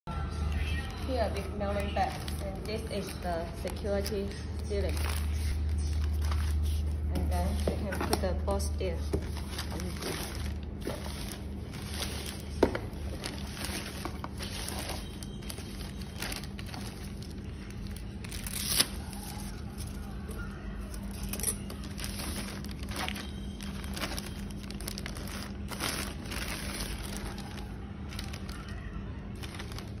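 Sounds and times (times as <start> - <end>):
plastic mailer bag crinkling: 0.5 - 30.0.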